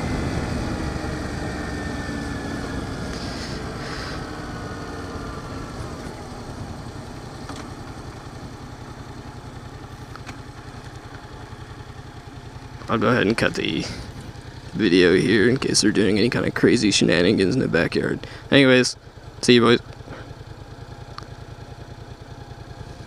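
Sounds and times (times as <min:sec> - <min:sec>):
motorcycle engine winding down to idle: 0:00.0 - 0:23.0.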